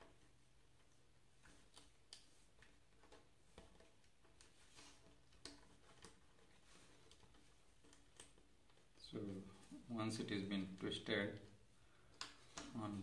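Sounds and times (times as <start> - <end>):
wire clicks and taps: 0.0 - 13.0.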